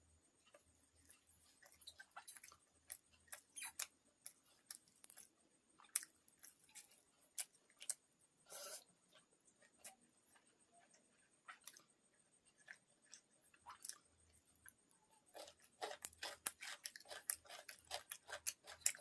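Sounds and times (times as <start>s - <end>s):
person chewing: 0.4s - 19.0s.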